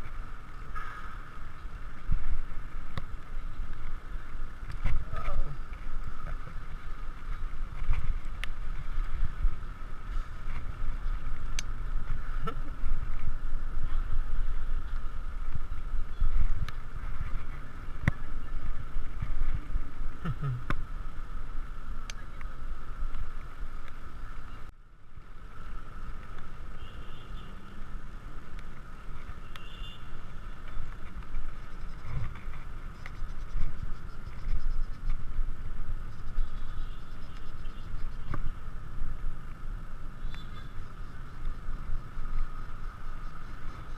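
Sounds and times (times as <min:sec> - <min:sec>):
road rumble: 0:00.0 - 0:43.9
wind: 0:00.0 - 0:43.9.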